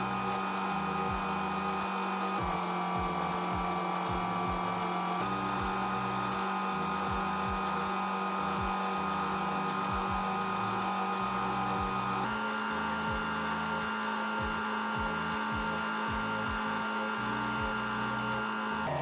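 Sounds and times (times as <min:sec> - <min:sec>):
metal lathe motor whine: 0:00.0 - 0:19.0.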